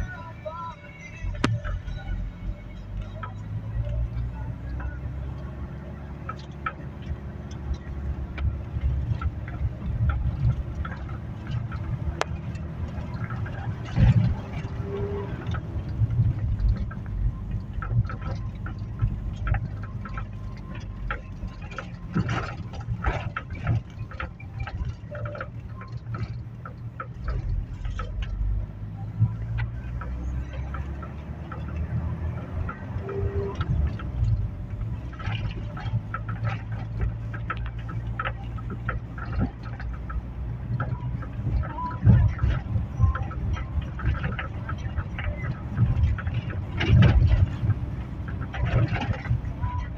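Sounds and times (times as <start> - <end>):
engine and road rumble: 0.0 - 49.9
small clicks and knocks: 0.9 - 49.9.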